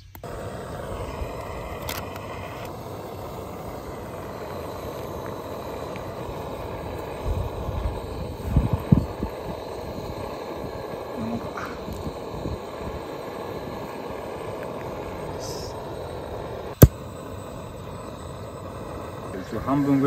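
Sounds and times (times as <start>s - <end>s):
gas stove burner rushing: 0.0s - 20.0s.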